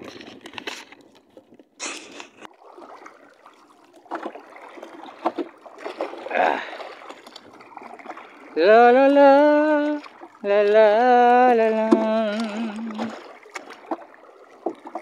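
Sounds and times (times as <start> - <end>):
paddle splashing water: 0.0 - 15.0
water sloshing against hull: 0.0 - 15.0.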